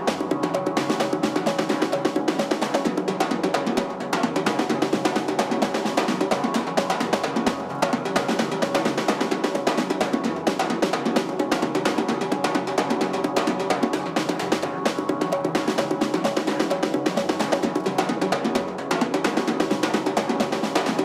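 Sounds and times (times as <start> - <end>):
fast drumming: 0.0 - 21.0
sustained musical backing: 0.0 - 21.0.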